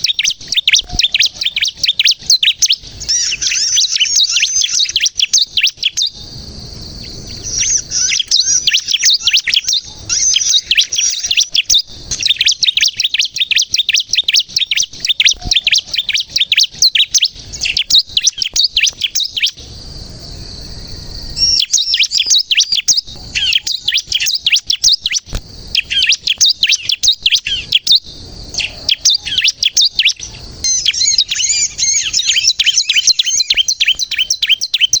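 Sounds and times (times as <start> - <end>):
bird singing fast high chirps: 0.0 - 19.6, 21.2 - 35.0.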